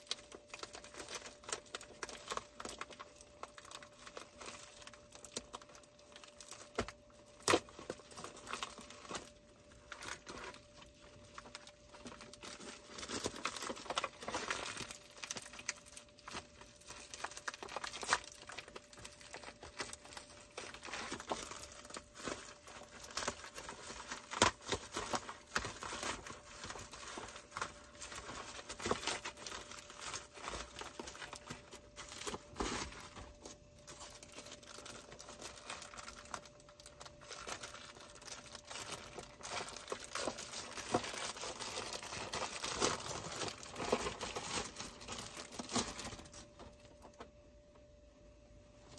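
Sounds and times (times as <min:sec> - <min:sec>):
wrapping crinkling and tearing: 0:00.0 - 0:47.3.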